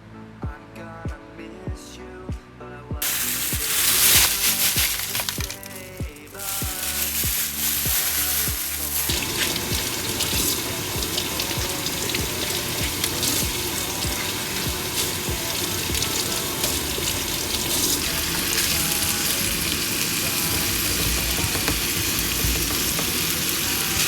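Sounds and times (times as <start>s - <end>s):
background music with steady beat: 0.0s - 24.0s
water running from a tap: 3.0s - 24.0s.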